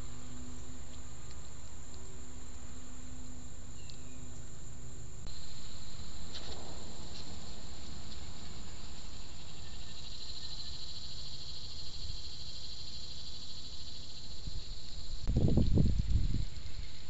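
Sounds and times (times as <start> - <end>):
high-pitched insect drone: 0.0 - 17.0
low steady rumble: 0.0 - 17.0.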